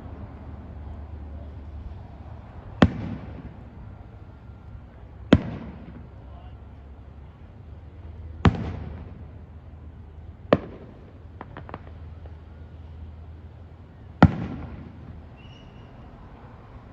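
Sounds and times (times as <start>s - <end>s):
distant firework bursts: 1.1s - 16.9s.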